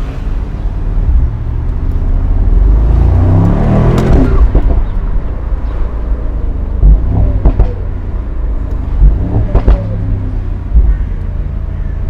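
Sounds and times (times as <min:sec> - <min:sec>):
exhaust cracks: 0:00.0 - 0:11.7
car engine accelerating: 0:00.0 - 0:12.0.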